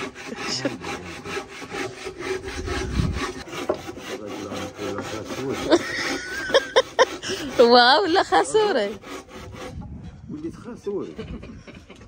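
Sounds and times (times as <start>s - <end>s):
hand saw cutting: 0.0s - 12.0s.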